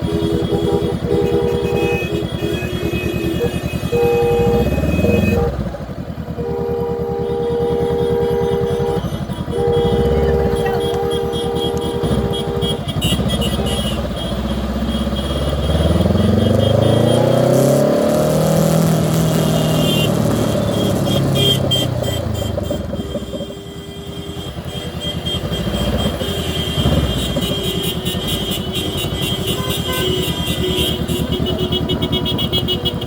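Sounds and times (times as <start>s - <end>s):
vehicle horn blasts: 0.0s - 18.2s, 19.0s - 33.0s
motorcycle engines revving: 0.0s - 33.0s.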